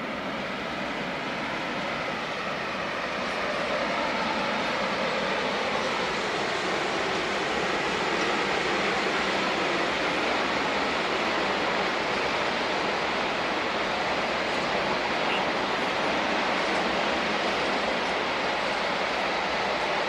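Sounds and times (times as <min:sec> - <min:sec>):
freight train rushing past: 0:00.0 - 0:20.0.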